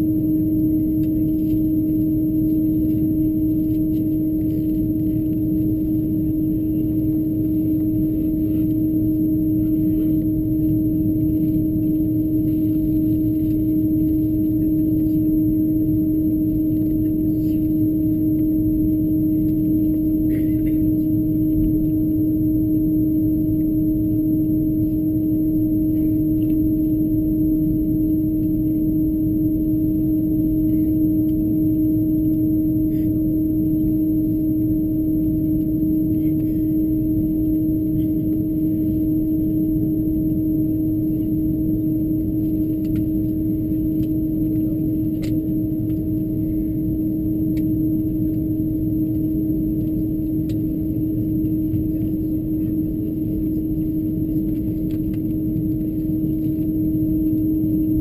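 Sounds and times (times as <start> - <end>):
airplane cabin rumble: 0.0 - 58.0
constant low hum: 0.0 - 58.0
faint high whine: 0.0 - 58.0.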